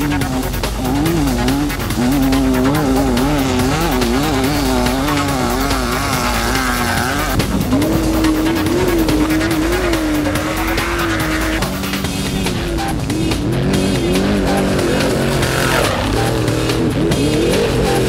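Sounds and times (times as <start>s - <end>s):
race car engine running hard: 0.0s - 18.0s.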